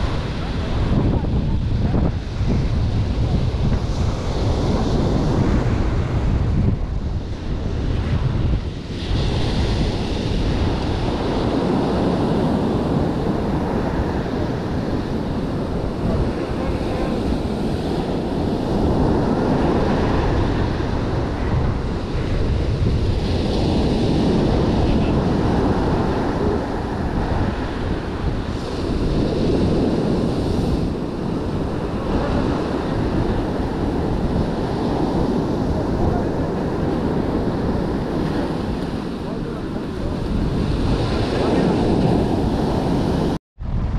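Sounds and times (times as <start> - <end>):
ocean surf breaking on beach: 0.0 - 43.9
wind buffeting microphone: 0.0 - 43.9.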